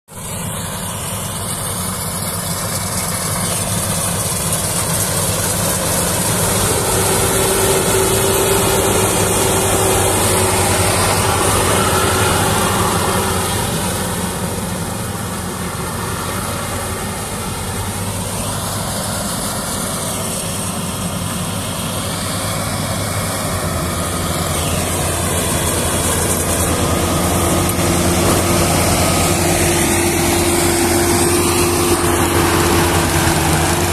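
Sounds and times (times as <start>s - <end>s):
diesel engine running under load: 0.1s - 33.9s
whirr of threshing machinery: 0.1s - 33.9s.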